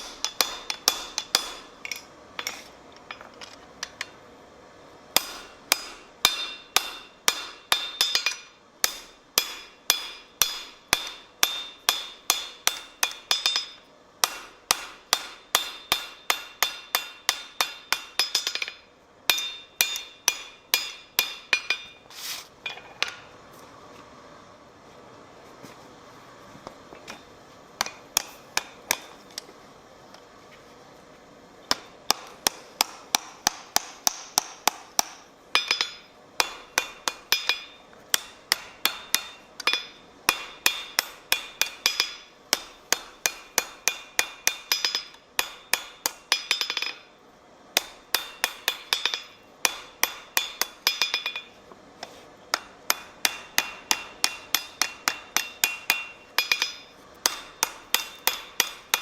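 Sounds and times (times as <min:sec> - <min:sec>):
hammer striking steel on anvil: 0:00.0 - 0:03.2, 0:05.1 - 0:23.3, 0:27.8 - 0:29.2, 0:31.7 - 0:47.1, 0:47.8 - 0:51.6, 0:52.5 - 0:59.0.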